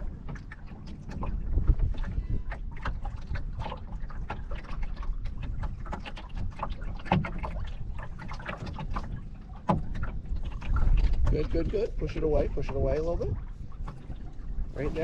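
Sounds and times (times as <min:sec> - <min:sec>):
water splashing against hull: 0:00.0 - 0:15.0
wind rumble on microphone: 0:00.0 - 0:15.0.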